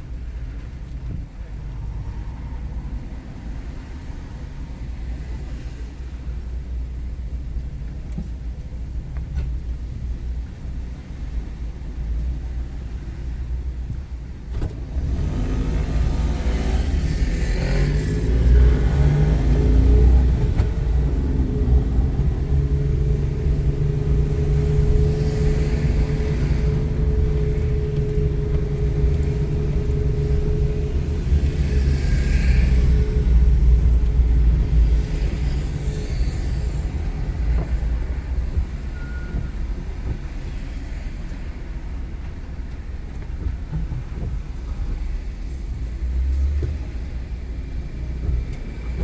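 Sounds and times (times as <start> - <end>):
road noise: 0.0 - 49.0
vehicle engine hum: 0.0 - 49.0.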